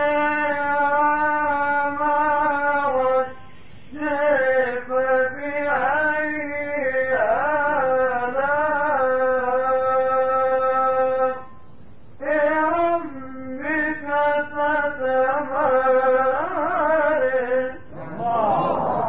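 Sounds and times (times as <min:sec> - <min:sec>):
man chanting melodically: 0:00.0 - 0:11.6, 0:12.2 - 0:19.0.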